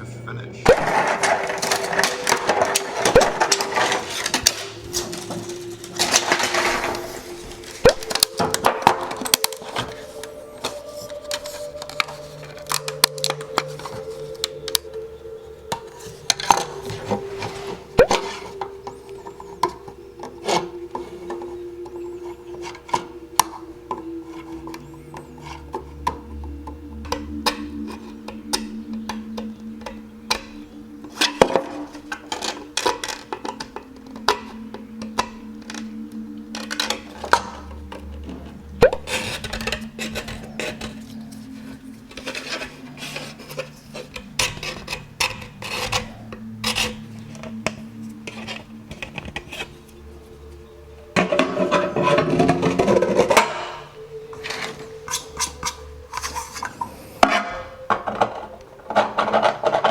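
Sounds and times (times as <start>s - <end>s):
quiet background music: 0.0s - 59.9s
small hard parts clicking: 0.6s - 50.6s, 51.2s - 59.9s
rubbing or scraping: 0.7s - 21.5s, 31.1s - 50.3s, 51.2s - 59.9s.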